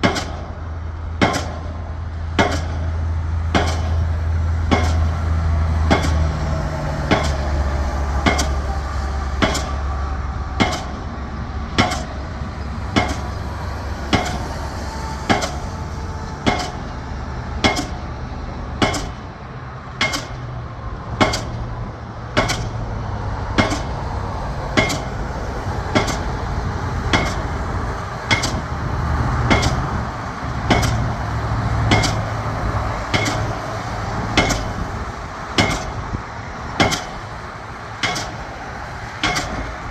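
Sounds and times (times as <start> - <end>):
pile hammer metallic blows: 0.0 - 20.5, 21.1 - 39.9
steady low drone: 0.0 - 39.9.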